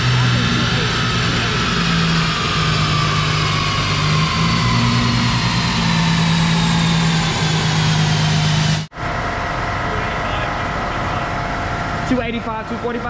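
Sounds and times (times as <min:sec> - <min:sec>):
car engine running: 0:00.0 - 0:13.0
high whine dropping in pitch: 0:00.0 - 0:13.0.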